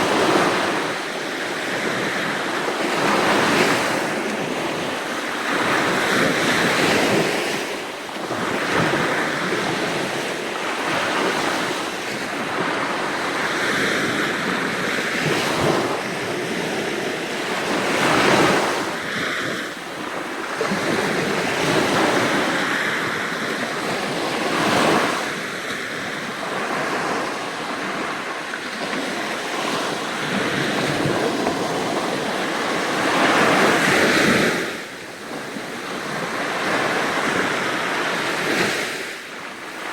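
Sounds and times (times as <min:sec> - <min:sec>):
sea waves breaking on shore: 0:00.0 - 0:39.9
wind on microphone: 0:00.0 - 0:39.9.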